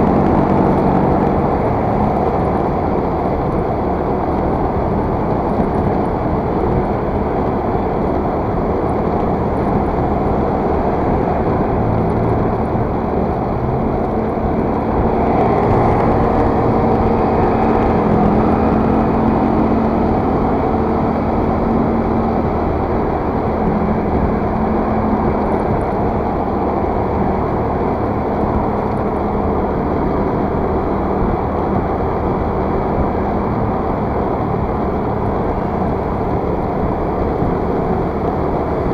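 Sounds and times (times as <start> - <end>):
scooter engine humming: 0.0 - 38.9
wind and road rush: 0.0 - 38.9.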